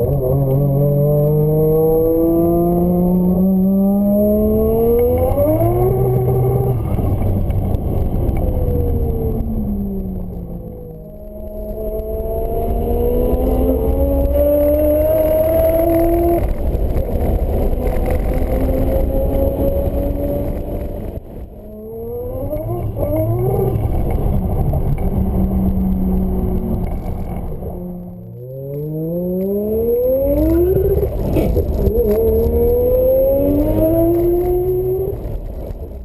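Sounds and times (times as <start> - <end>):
rotary engine revving: 0.0 - 35.7.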